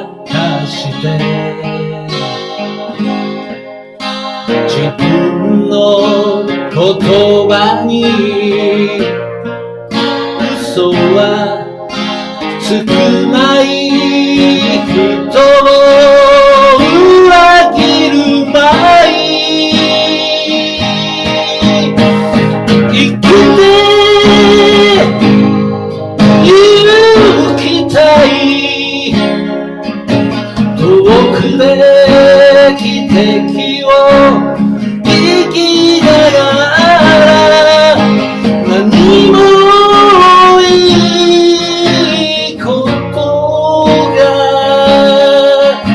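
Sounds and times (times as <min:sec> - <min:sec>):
person singing slow ballad: 0:00.0 - 0:45.9
strummed acoustic guitar: 0:00.0 - 0:45.9.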